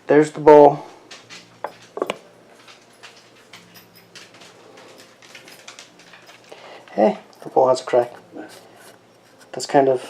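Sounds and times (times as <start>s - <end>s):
objects being handled: 1.1s - 9.9s.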